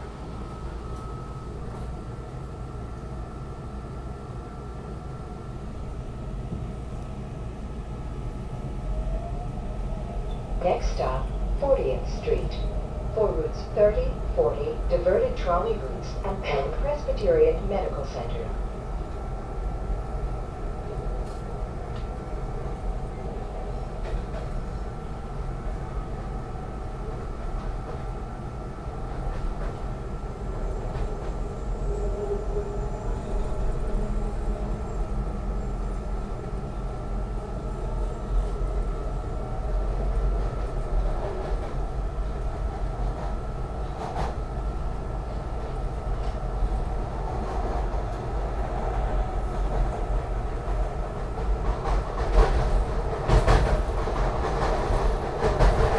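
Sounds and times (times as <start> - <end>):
rail car wheels and motors rumbling: 0.0 - 55.9.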